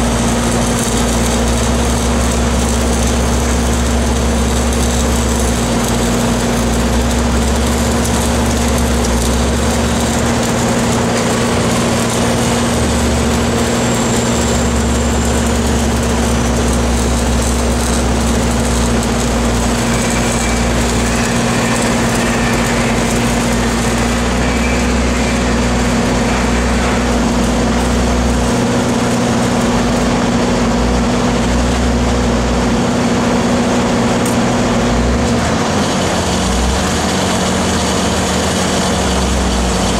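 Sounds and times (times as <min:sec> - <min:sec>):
arc welding hiss and crackle: 0:00.0 - 0:39.9
engines running: 0:00.0 - 0:39.9.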